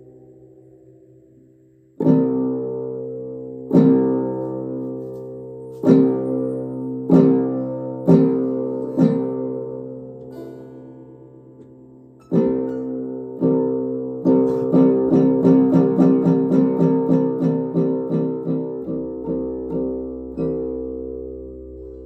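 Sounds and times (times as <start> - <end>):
strummed string instrument chords: 0.0 - 22.0.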